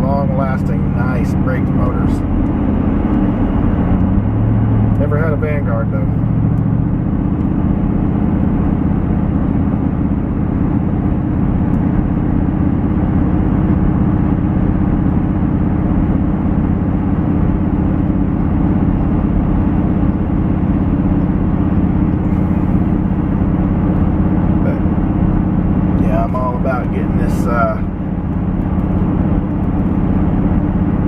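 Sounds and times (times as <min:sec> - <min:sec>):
truck engine and road drone: 0:00.0 - 0:31.0.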